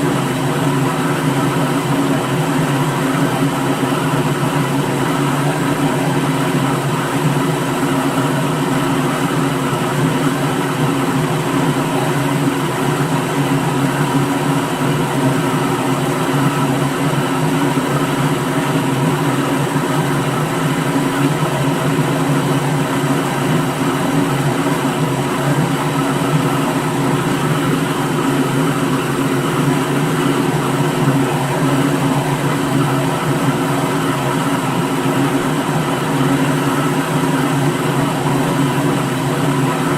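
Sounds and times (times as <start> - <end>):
blender motor whirring: 0.0 - 39.9.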